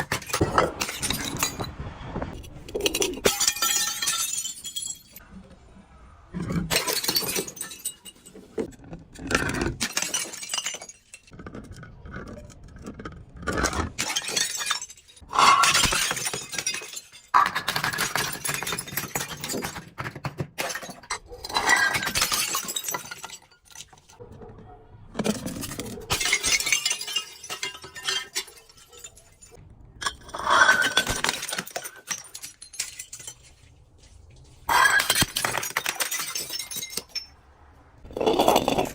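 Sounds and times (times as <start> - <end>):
glass bottles shattering: 0.0 - 1.8, 2.4 - 5.2, 6.6 - 11.4, 13.6 - 24.2, 25.2 - 33.8, 34.6 - 37.4, 38.1 - 38.9.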